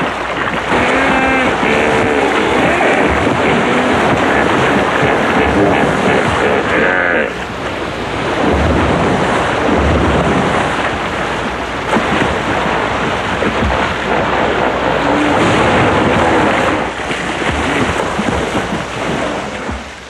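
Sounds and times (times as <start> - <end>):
heavy splashing in water: 0.0 - 20.0.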